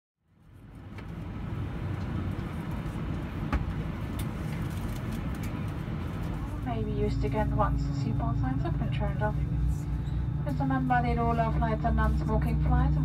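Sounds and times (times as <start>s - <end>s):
aircraft cabin rumble: 0.3s - 13.0s.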